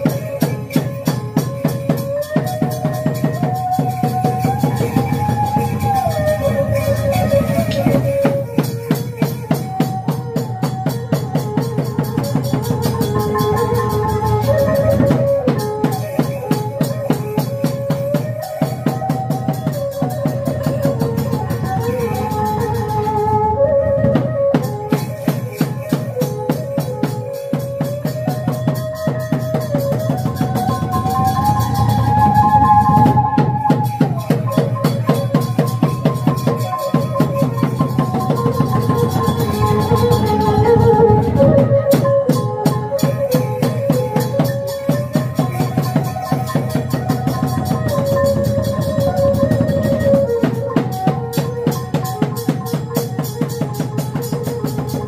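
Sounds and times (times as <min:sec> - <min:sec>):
fast steady drumming: 0:00.0 - 0:55.0
wavering wind instrument melody: 0:00.0 - 0:55.0.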